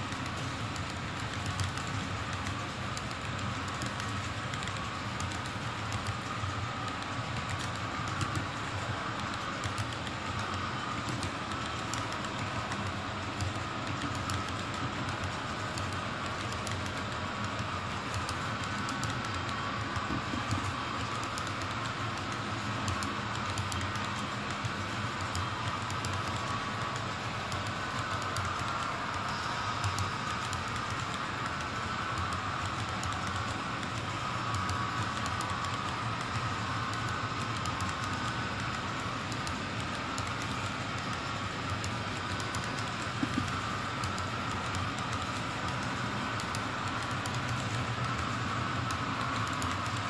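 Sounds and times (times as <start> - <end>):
model train wheels whirring: 0.0 - 50.0.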